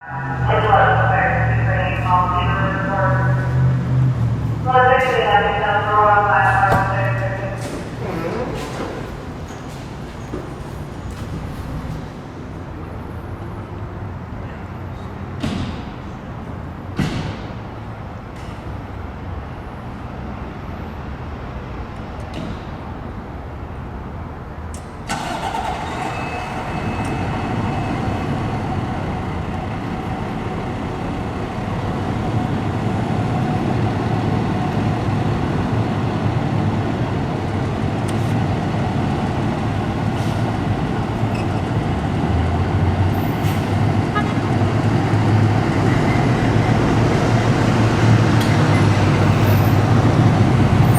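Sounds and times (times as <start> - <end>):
fire engine running: 0.0 - 15.4, 22.9 - 50.9.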